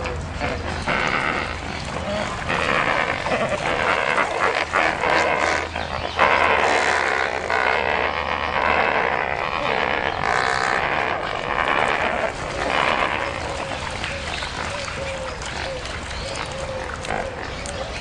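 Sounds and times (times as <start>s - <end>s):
flock of flamingos calling: 0.0s - 18.0s.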